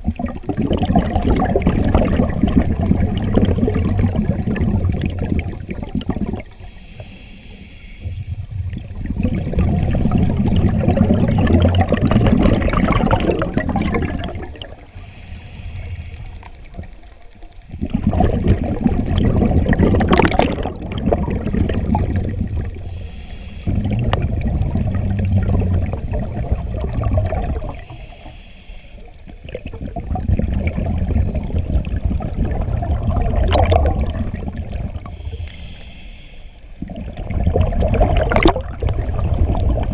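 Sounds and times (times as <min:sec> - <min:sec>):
diver's exhaled bubbles gurgling: 0:00.0 - 0:06.8, 0:08.1 - 0:28.3, 0:29.0 - 0:35.7, 0:36.7 - 0:39.9.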